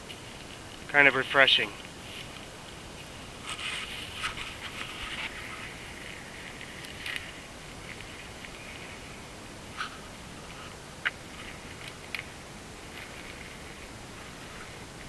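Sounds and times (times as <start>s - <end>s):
rustling through dry grass: 0.0s - 15.0s.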